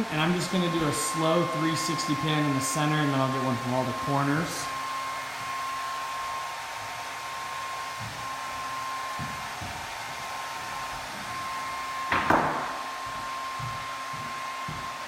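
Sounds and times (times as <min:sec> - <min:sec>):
blower rushing with thin whine: 0:00.0 - 0:15.0.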